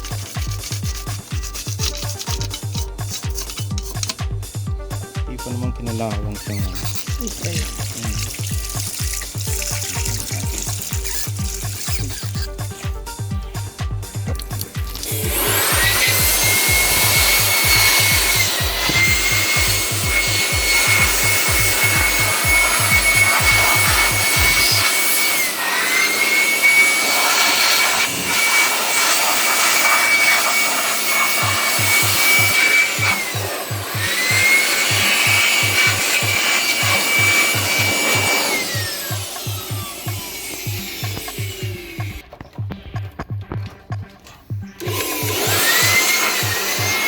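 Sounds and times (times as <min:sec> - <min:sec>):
background music with beat: 0:00.0 - 0:25.5, 0:27.2 - 0:47.0
small electric motor whining: 0:00.0 - 0:42.2, 0:44.8 - 0:47.0.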